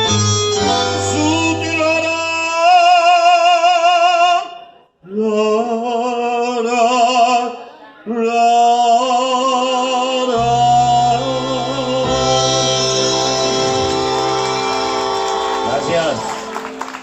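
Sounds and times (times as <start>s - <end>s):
man singing with vibrato: 0.0s - 14.5s.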